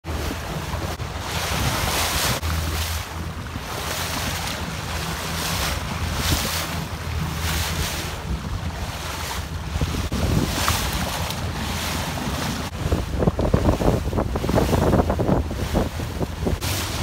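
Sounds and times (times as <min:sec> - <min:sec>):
water splashing past boat hull: 0:00.0 - 0:17.0
wind buffeting microphone: 0:00.0 - 0:17.0.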